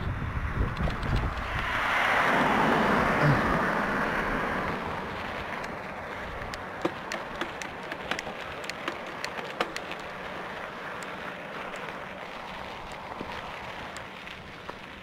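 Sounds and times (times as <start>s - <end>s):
bike tyres rolling on gravel: 0.2s - 15.0s
small stones crackling under tyres: 0.6s - 15.0s.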